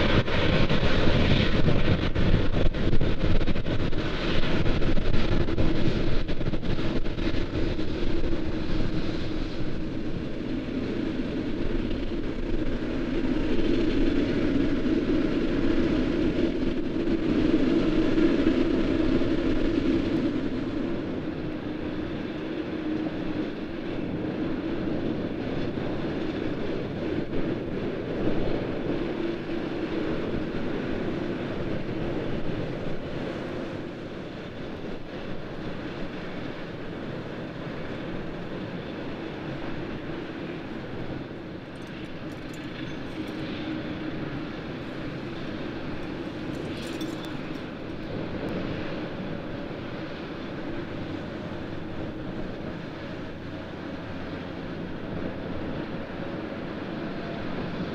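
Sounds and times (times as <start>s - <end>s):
jet engines droning: 0.0s - 57.9s.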